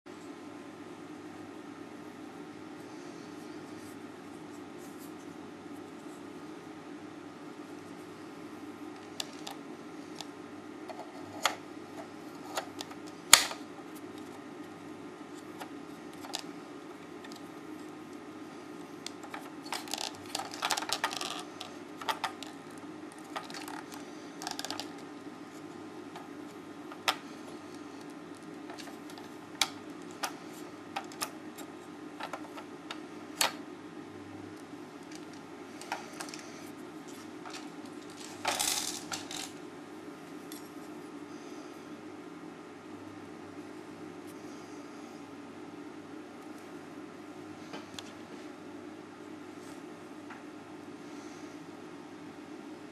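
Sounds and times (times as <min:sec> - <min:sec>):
steady low hum: 0:00.1 - 0:52.9.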